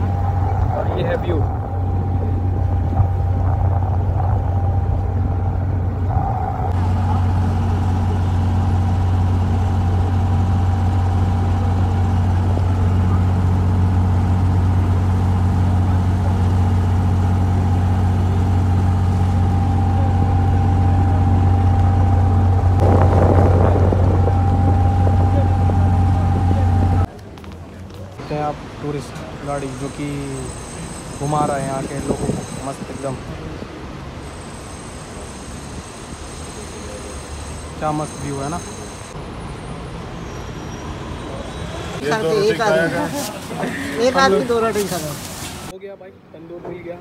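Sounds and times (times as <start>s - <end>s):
boat diesel engine droning: 0.0s - 27.1s, 28.2s - 45.7s.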